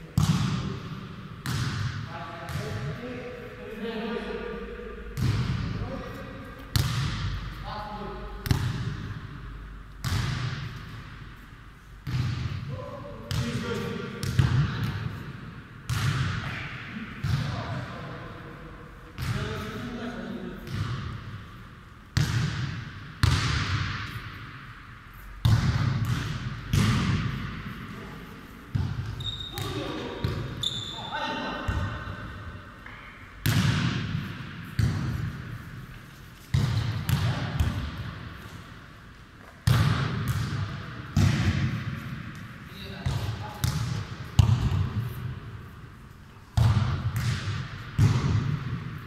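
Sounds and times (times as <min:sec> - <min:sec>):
ball thudding in echoing hall: 0:00.0 - 0:49.0.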